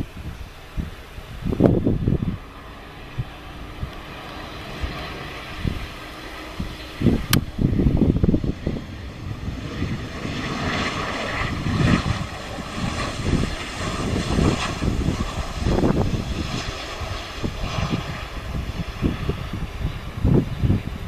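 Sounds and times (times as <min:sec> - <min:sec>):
jet engine rushing: 0:00.0 - 0:21.0
wind buffeting microphone: 0:00.0 - 0:21.0.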